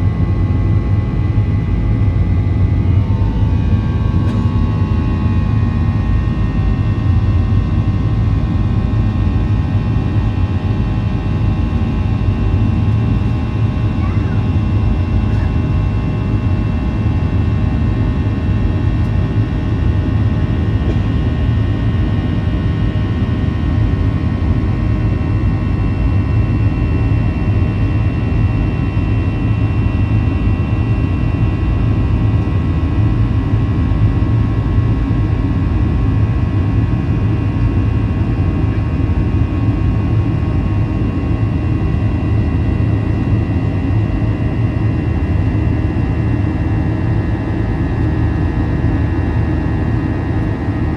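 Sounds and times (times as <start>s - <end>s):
jet engines rumbling in cabin: 0.0s - 50.9s.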